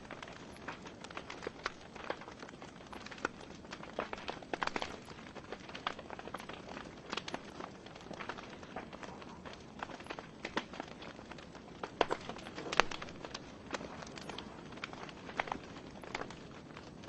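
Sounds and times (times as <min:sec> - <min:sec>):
fire hissing: 0:00.0 - 0:17.0
wood logs crackling and popping: 0:00.0 - 0:17.0.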